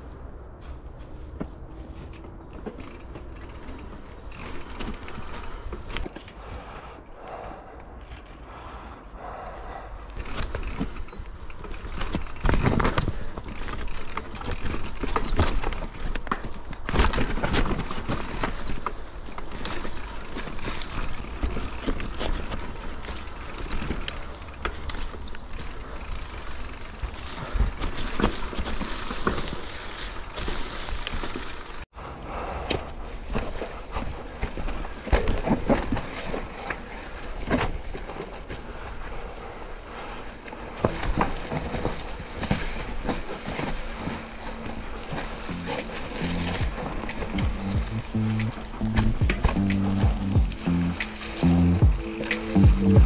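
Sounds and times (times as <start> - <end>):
mountain bike clattering over rocks: 2.0 - 6.7, 10.2 - 31.9, 32.8 - 53.0
chain and frame rattling: 2.6 - 6.8, 8.0 - 31.9, 33.3 - 53.0.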